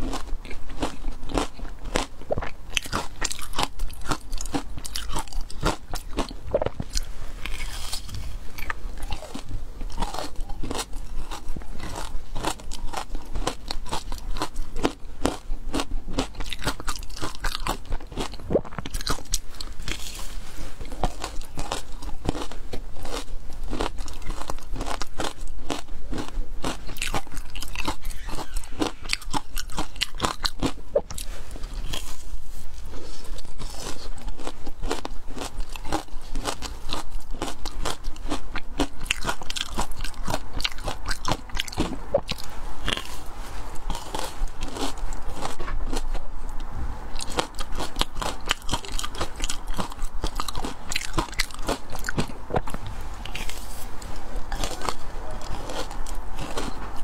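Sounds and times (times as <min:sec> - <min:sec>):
chewing crunchy ice: 0:00.0 - 0:57.0.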